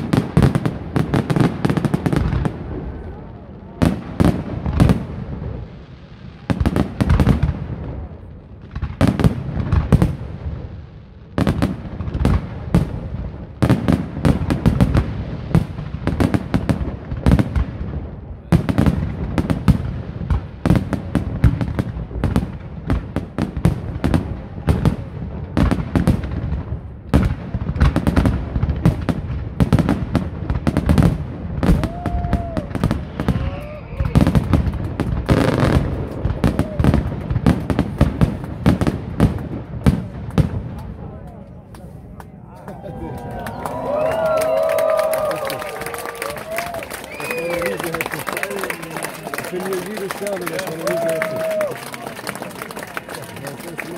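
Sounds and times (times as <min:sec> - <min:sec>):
firework bangs: 0:00.0 - 0:41.4, 0:43.5 - 0:53.9
firework crackling: 0:00.0 - 0:42.0, 0:43.5 - 0:53.9.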